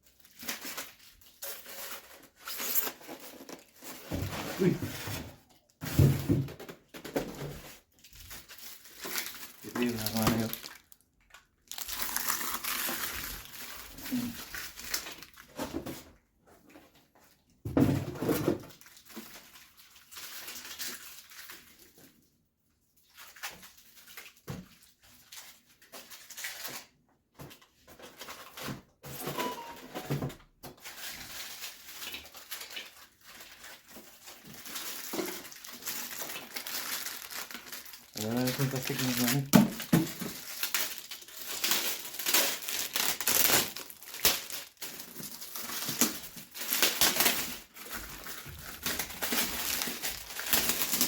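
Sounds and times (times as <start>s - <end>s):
plastic wrapping crinkling: 0.0s - 5.9s, 6.8s - 15.8s, 18.6s - 22.2s, 23.0s - 26.9s, 30.7s - 51.0s.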